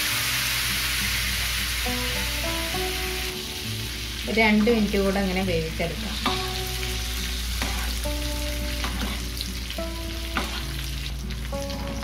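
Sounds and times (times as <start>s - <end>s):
fish sizzling in bubbling butter: 0.0s - 12.0s.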